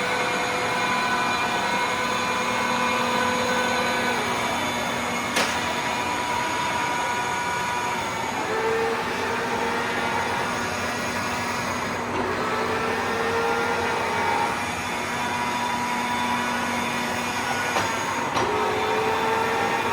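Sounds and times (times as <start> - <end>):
milling machine gear whine: 0.0 - 19.9.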